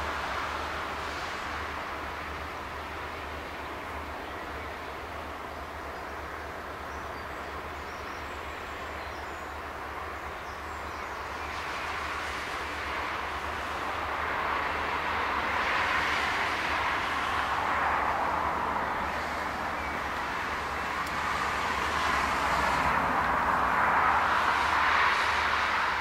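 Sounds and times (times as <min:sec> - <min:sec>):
distant traffic rushing: 0:00.0 - 0:26.0.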